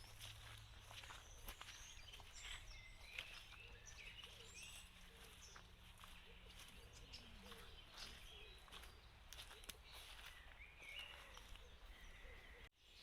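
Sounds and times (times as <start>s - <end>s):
bird chirps and calls: 0.0s - 13.0s.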